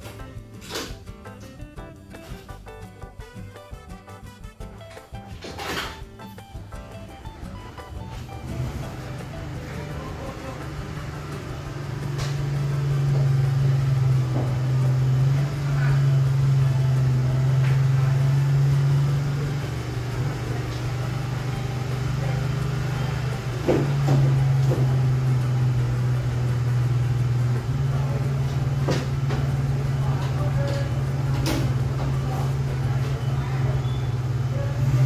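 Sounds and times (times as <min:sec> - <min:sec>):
engine running: 0:04.8 - 0:35.0.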